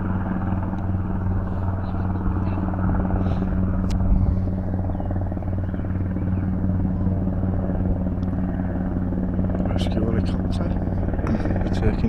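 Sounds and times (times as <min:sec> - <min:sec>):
helicopter rotor blades chopping: 0:00.0 - 0:12.0.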